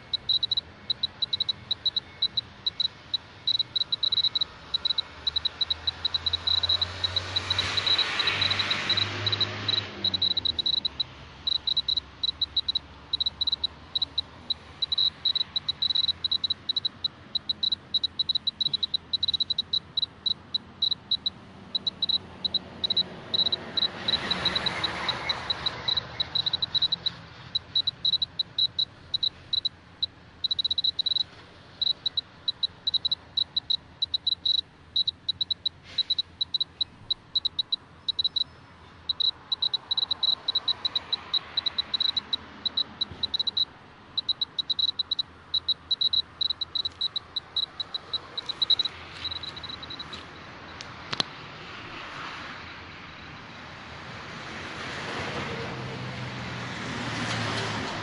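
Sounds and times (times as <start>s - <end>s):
dosimeter short high beeps: 0.0s - 29.7s, 30.4s - 38.5s, 39.1s - 50.2s.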